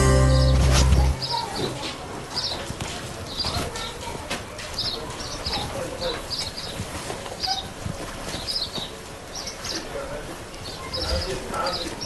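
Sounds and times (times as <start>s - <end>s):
birds chirping: 0.0s - 4.0s, 4.7s - 7.8s, 8.4s - 12.0s.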